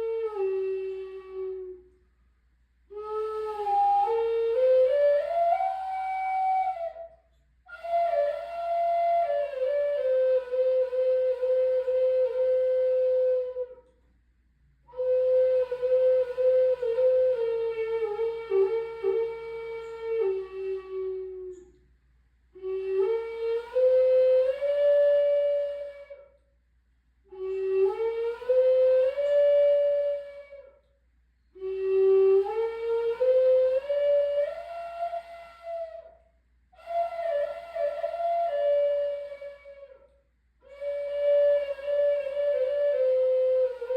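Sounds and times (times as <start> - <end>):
flute melody: 0.0 - 2.0, 2.9 - 13.9, 14.9 - 21.8, 22.6 - 26.4, 27.3 - 30.9, 31.6 - 36.2, 36.8 - 43.9.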